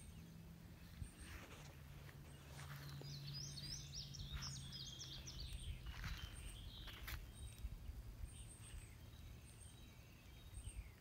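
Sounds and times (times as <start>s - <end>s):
outdoor background noise: 0.0s - 11.0s
songbird chirping: 0.0s - 11.0s
steady low hum: 0.0s - 11.0s.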